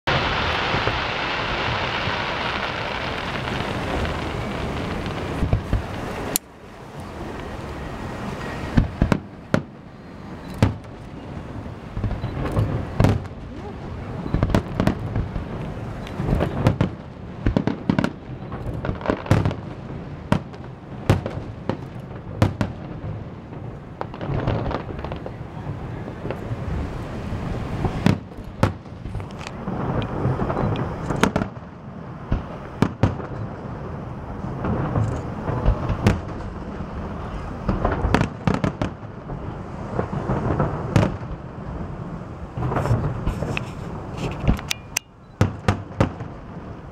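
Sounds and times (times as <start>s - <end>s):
fireworks booming: 0.1s - 46.9s
loud dense hiss: 0.1s - 46.9s.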